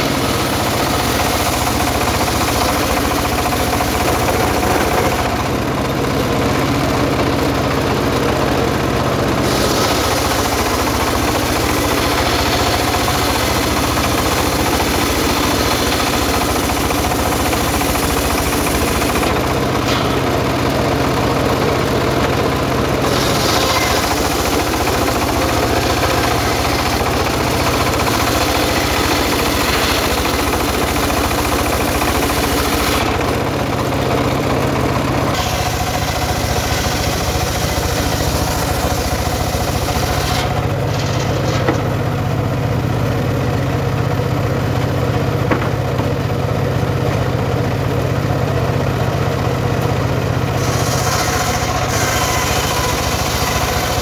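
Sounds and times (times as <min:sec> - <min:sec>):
circular sawmill cutting timber: 0:00.0 - 0:54.0.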